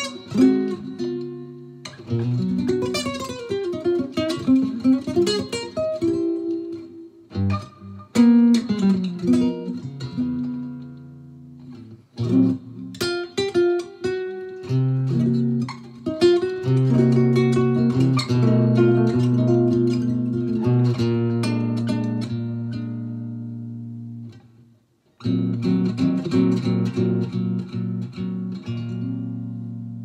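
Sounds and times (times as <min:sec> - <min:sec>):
jazz guitar playing: 0:00.0 - 0:30.0.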